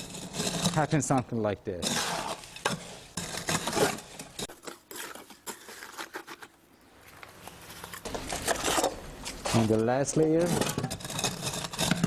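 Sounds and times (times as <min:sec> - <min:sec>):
scoop scraping wet concrete: 0:00.0 - 0:06.8, 0:07.5 - 0:12.0.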